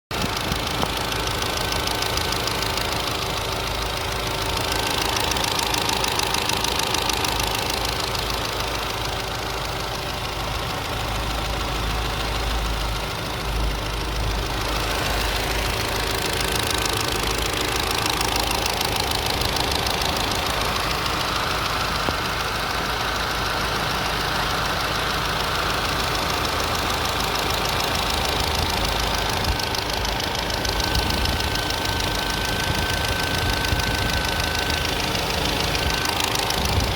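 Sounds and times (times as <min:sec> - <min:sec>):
car engine clacking: 0:00.1 - 0:36.9.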